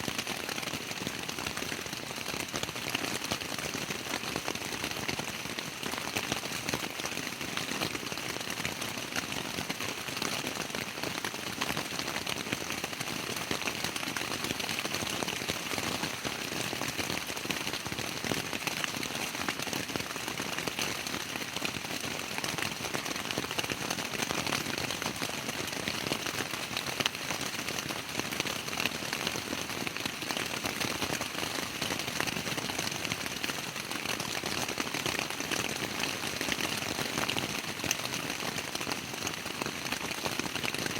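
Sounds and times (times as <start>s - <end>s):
rain pattering on tent fabric: 0.0s - 40.9s.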